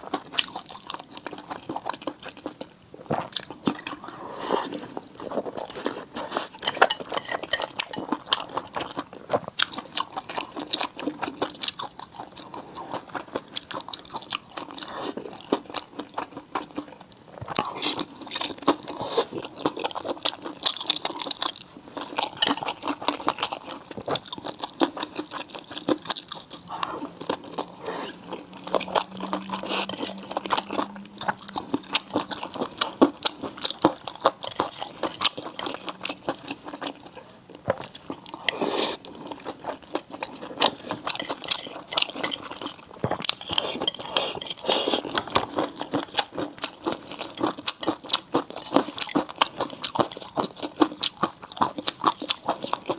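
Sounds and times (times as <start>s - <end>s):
chewing crisp food: 0.0s - 52.9s.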